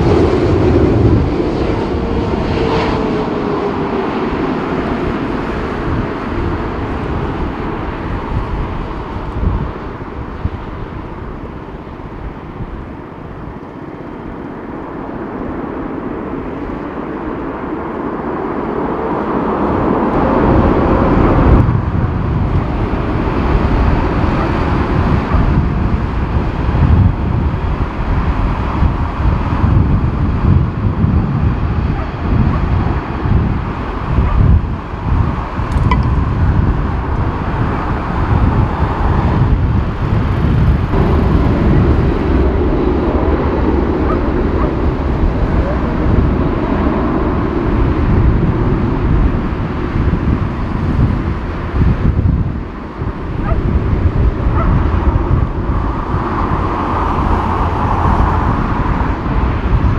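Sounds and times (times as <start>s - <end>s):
jet engines whining: 0.0s - 28.1s, 30.7s - 51.6s
jet roar on runway: 0.0s - 59.9s.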